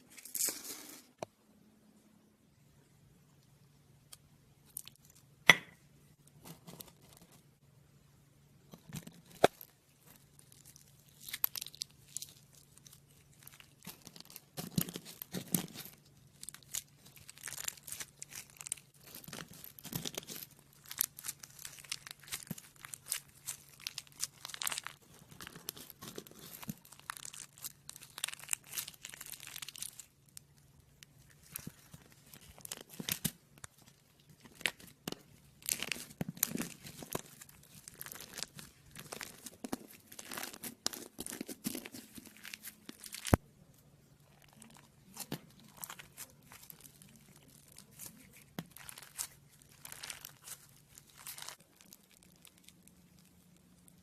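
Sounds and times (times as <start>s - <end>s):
slime crackling and popping: 9.1s - 43.4s, 44.2s - 54.0s.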